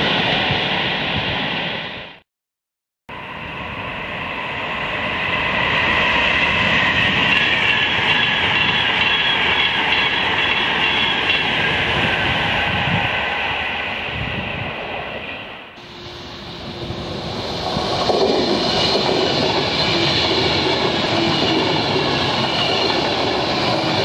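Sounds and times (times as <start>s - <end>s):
train wheels rumbling on rail: 3.2s - 24.0s.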